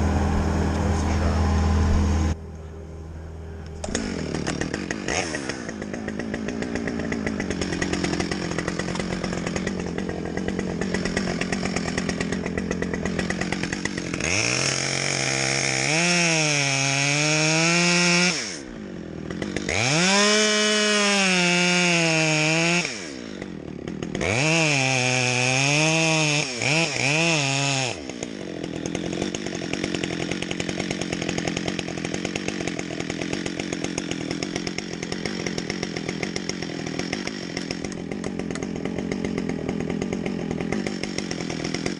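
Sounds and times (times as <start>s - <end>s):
chainsaw cutting: 0.0s - 2.4s, 3.1s - 41.9s.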